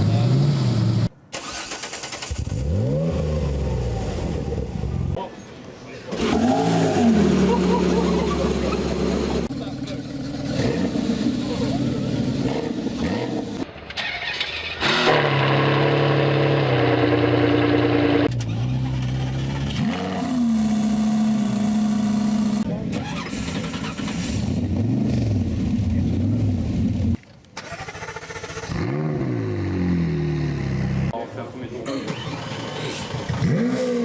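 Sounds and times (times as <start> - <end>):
car engines starting and revving: 0.0 - 5.2, 6.0 - 34.0.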